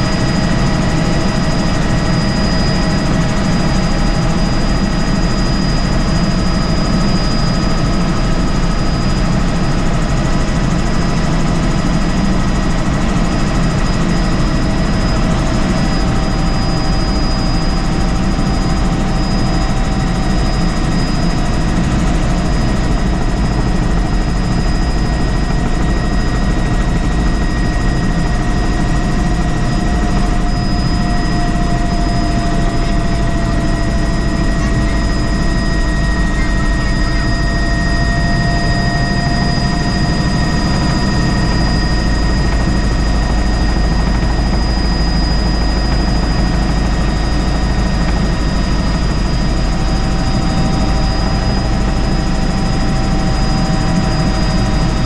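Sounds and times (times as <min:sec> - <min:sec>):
helicopter in flight: 0:00.0 - 0:55.0.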